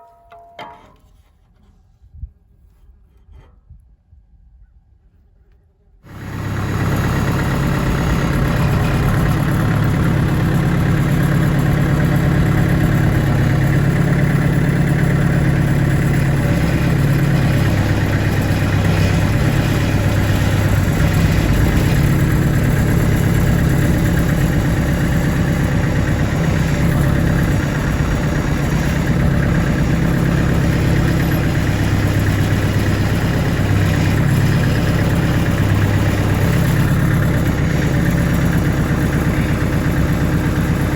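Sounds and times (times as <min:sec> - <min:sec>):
engine running steadily: 0:06.0 - 0:40.9.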